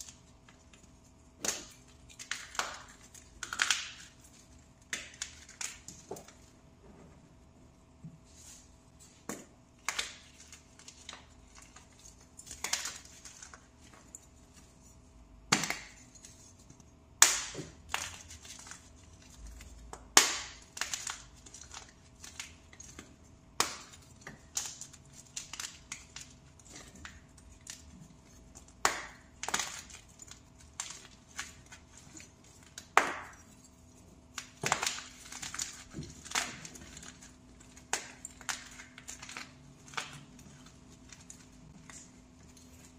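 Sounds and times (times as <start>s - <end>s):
powder blocks crunching by hand: 0.0s - 6.6s, 8.3s - 14.2s, 17.2s - 42.9s.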